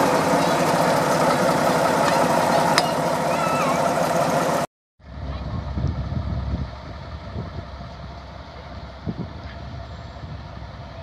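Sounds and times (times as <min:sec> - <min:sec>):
diesel locomotive engine running: 0:00.0 - 0:11.0.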